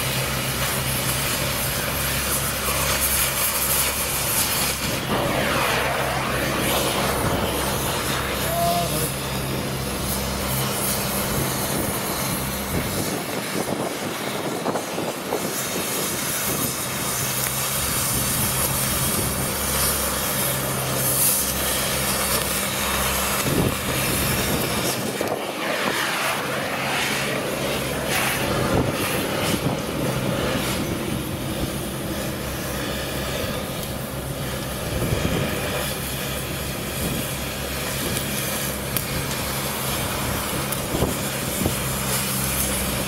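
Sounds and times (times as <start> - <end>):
cutting torch hissing: 0.0 - 43.0
low engine hum: 0.0 - 43.0.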